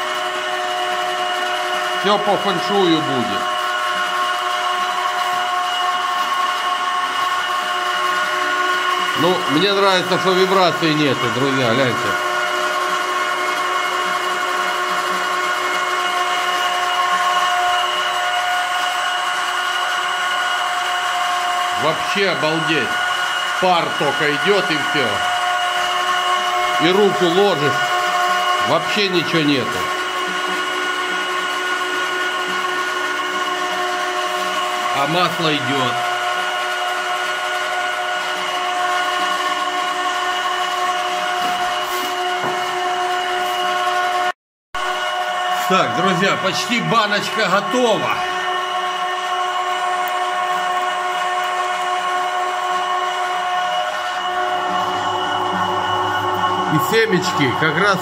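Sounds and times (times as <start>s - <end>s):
oil press machine whine: 0.0s - 58.0s.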